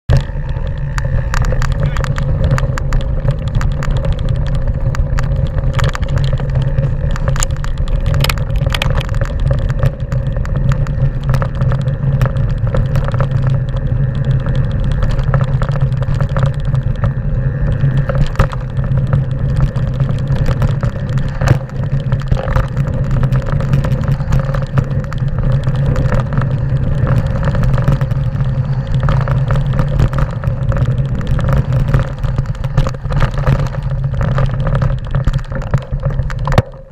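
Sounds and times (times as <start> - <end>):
bike tyres rumbling on trail: 0.0 - 36.9
bike clattering over stones: 0.1 - 36.9.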